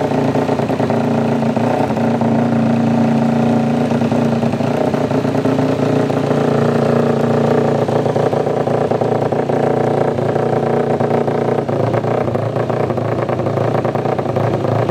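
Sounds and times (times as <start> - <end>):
motorcycle engine running at low revs: 0.0 - 14.9.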